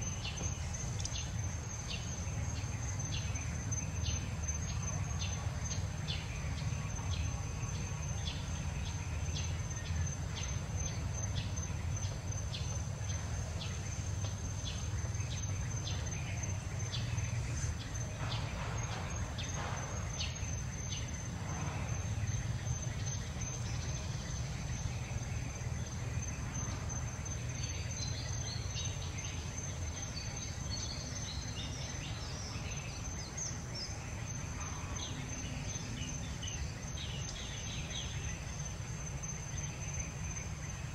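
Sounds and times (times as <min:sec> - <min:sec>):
insect chirps: 0:00.0 - 0:40.9.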